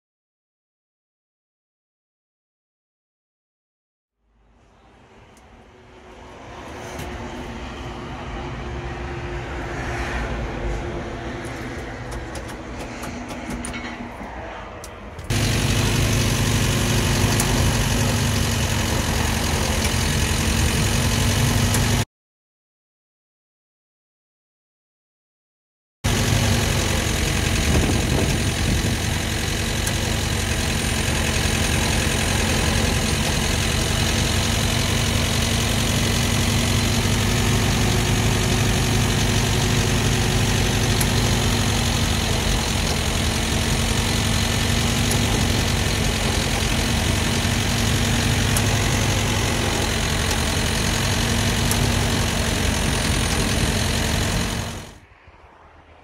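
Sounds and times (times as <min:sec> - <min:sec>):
petrol engine running: 0:05.3 - 0:22.0, 0:26.1 - 0:55.0.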